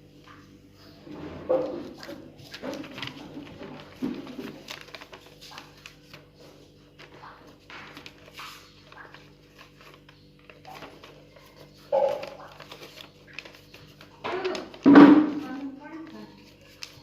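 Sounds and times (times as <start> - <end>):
steady low hum: 0.0 - 17.0
paper rustling and crackling: 0.2 - 17.0.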